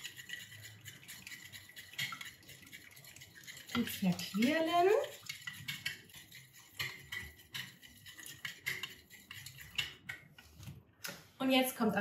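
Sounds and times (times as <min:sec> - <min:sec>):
metal whisk clicking in ceramic bowl: 0:00.0 - 0:10.3.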